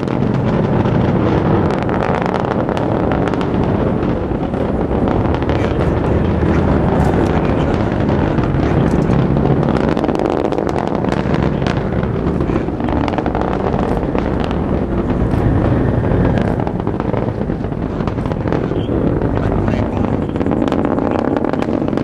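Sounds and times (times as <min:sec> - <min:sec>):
rocket engine rumble with crackling: 0:00.0 - 0:22.0.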